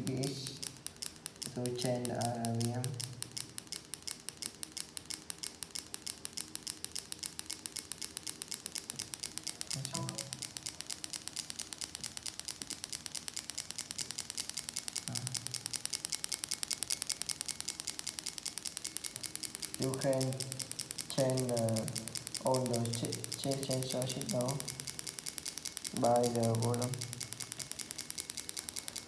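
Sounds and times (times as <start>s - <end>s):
fuel injectors clicking rapidly: 0.0s - 29.0s.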